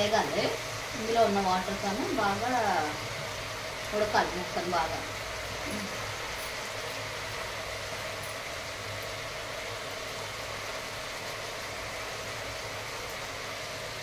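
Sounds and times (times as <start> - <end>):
chicken sizzling in a pan: 0.0 - 14.0.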